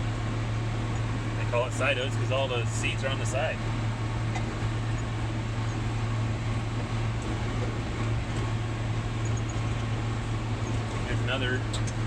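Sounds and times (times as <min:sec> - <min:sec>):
tractor and mower running: 0:00.0 - 0:12.0.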